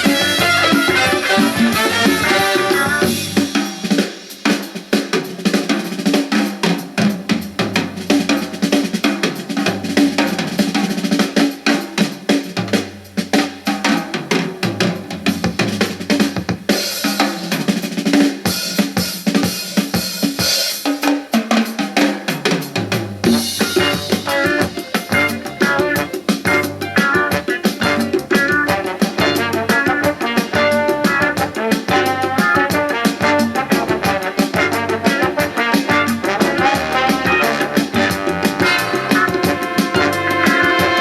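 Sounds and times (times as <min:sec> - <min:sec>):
band music from speakers: 0:00.0 - 0:41.0
drum beat with bass line: 0:00.0 - 0:41.0.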